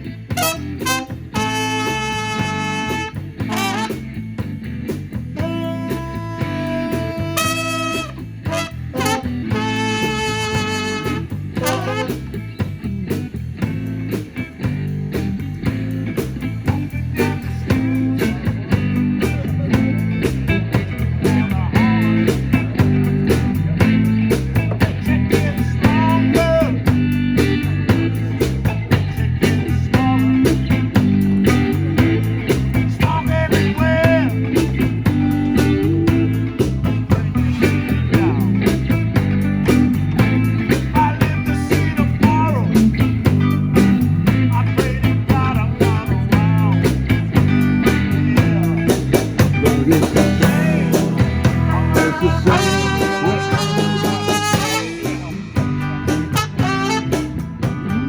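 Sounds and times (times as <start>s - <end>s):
live blues-rock band playing: 0.0s - 58.0s.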